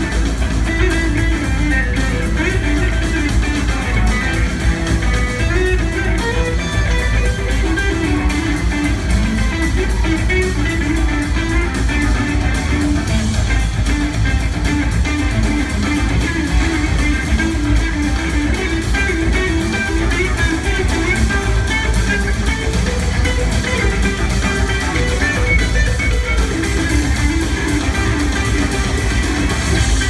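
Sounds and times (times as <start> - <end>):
bass guitar: 0.0 - 30.0
drums: 0.0 - 30.0
lead electric guitar: 0.0 - 30.0.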